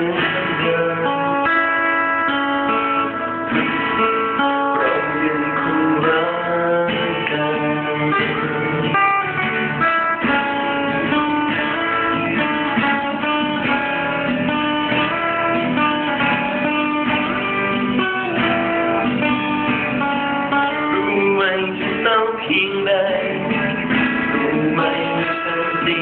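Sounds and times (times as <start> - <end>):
guitar melody over strummed chords: 0.0 - 26.0.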